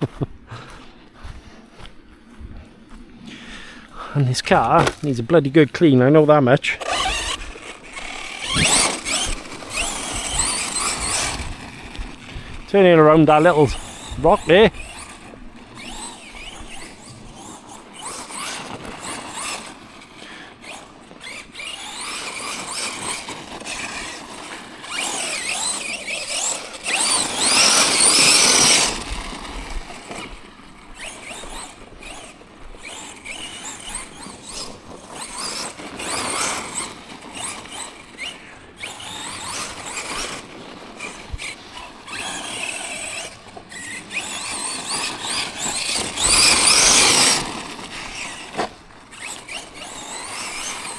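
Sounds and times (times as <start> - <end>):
toy truck electric motor whining: 3.2 - 50.9.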